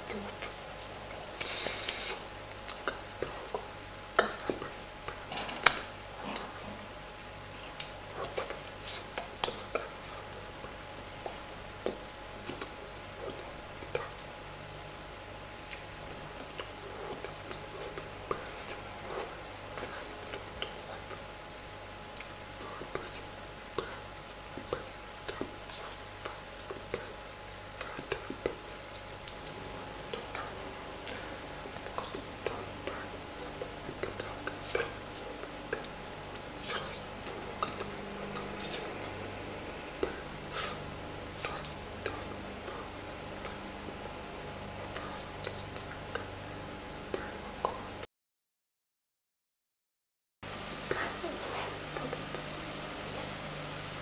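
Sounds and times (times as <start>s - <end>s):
low electrical hum: 0.0s - 48.1s, 50.5s - 54.0s.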